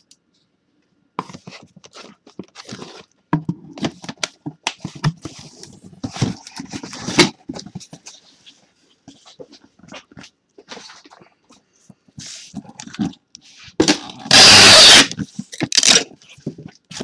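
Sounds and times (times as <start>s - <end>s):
cardboard rustling and scraping: 1.2s - 17.0s.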